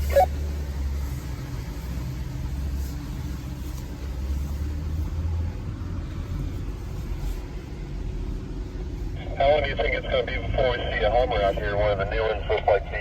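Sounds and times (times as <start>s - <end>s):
engine low rumble: 0.0s - 13.0s.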